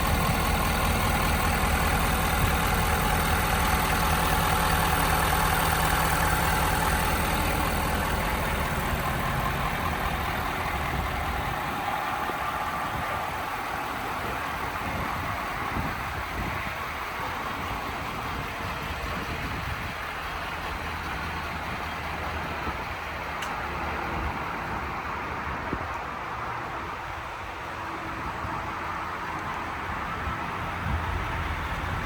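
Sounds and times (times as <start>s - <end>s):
pickup engine idling: 0.0s - 32.0s.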